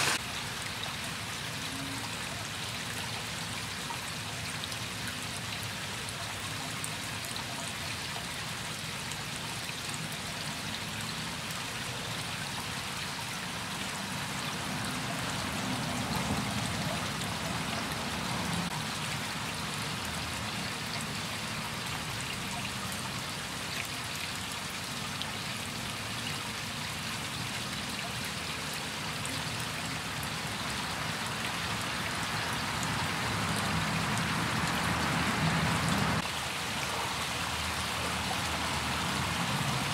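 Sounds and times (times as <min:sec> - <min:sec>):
small waterfall splashing and trickling: 0:00.0 - 0:39.9.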